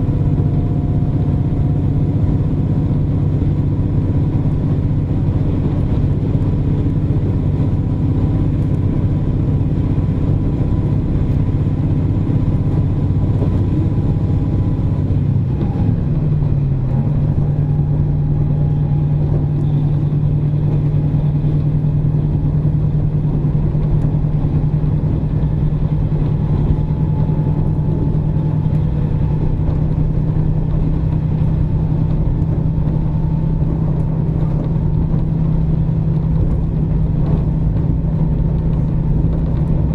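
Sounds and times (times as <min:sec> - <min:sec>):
diesel engine hum: 0:00.0 - 0:39.9
track rumble: 0:00.0 - 0:39.9.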